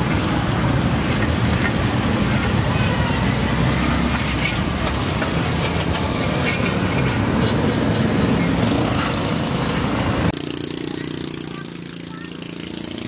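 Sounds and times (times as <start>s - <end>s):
traffic rumbling: 0.0s - 13.0s.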